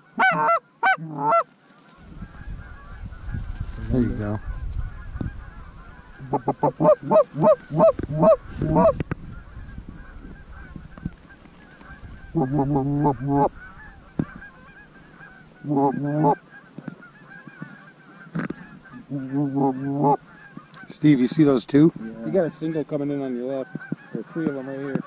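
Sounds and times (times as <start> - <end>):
goose honking loudly: 0.0 - 1.5, 3.9 - 25.0.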